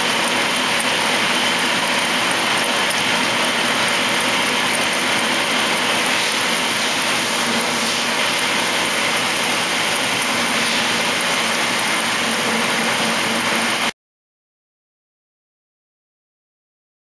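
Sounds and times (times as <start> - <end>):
milling machine cutting metal: 0.0 - 13.9.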